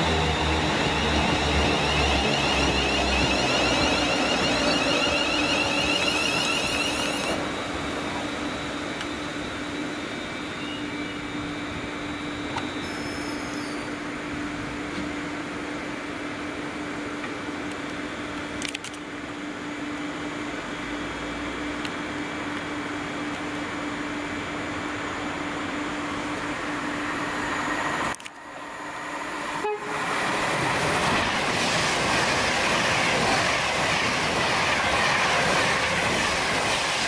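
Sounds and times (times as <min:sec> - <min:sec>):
electric train passing: 0:00.0 - 0:18.4, 0:19.3 - 0:37.0.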